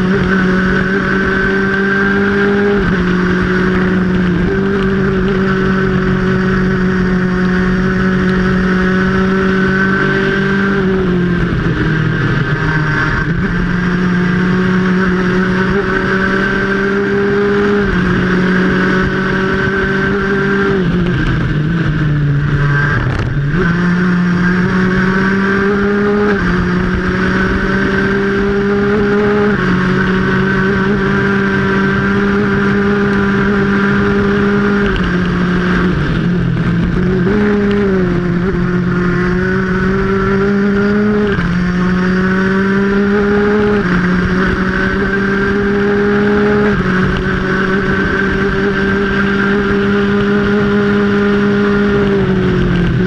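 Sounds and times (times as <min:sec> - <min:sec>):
kart engine at racing speed: 0:00.0 - 0:53.0.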